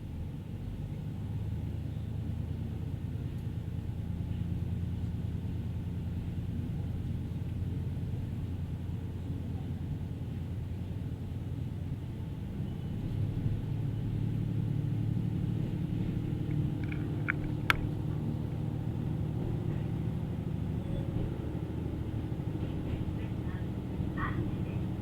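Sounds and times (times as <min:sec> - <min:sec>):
diesel train rumbling: 0:00.0 - 0:25.0.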